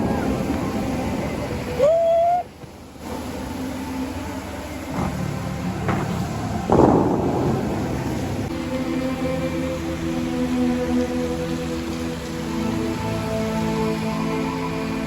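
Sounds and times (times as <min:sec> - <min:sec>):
fountain water rushing and splashing: 0:00.0 - 0:15.0.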